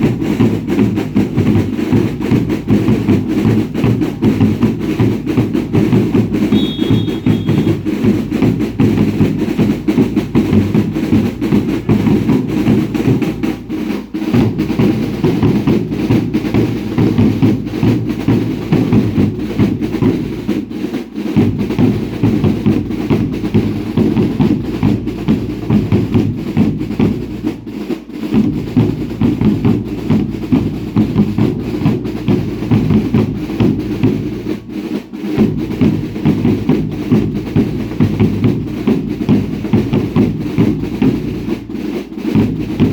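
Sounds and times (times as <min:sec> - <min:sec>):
bass drums and snare drums: 0:00.0 - 0:42.9.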